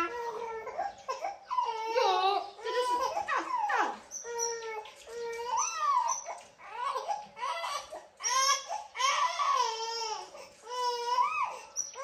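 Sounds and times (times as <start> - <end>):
baby crying: 0.0 - 12.0.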